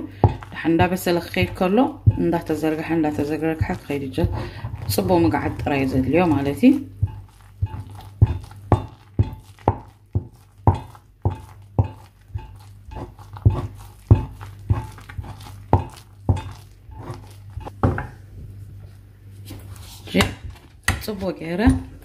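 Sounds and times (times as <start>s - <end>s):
wooden spoon knocking in saucepan: 0.0s - 18.2s.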